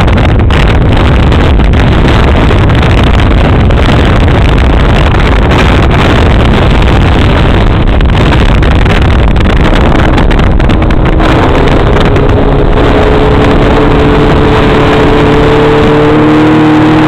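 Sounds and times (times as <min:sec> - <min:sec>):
motorboat running: 0:00.0 - 0:17.0
wind buffeting microphone: 0:00.0 - 0:17.0.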